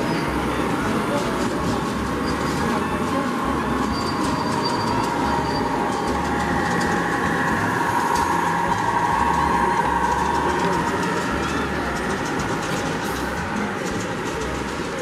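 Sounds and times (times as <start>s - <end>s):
model locomotive high whine: 0.0s - 15.0s
model train cars rolling on track: 0.0s - 15.0s.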